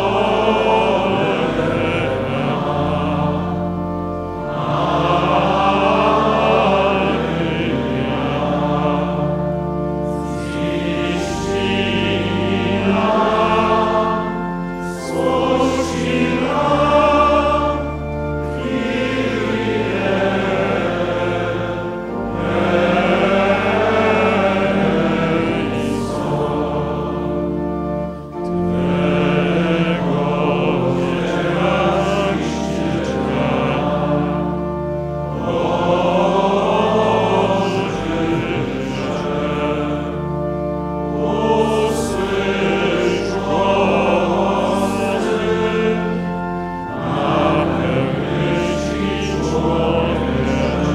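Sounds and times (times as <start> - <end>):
congregation singing a hymn: 0.0 - 50.9
low organ notes: 0.0 - 50.9.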